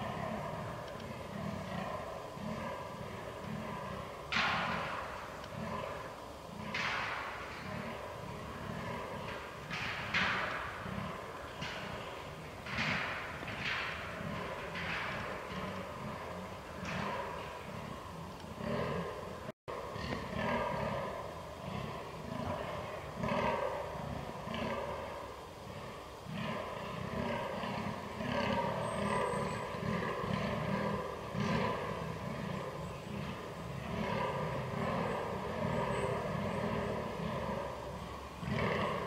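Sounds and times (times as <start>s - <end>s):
deer groaning: 0.0s - 39.0s.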